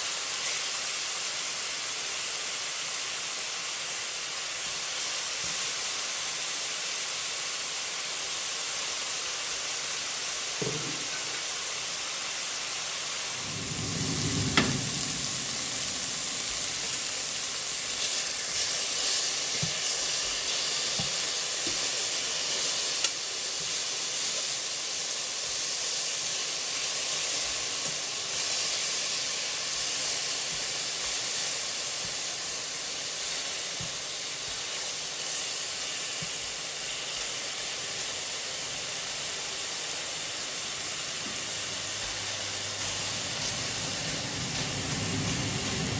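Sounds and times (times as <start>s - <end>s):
food sizzling in a hot pan: 0.0s - 45.9s.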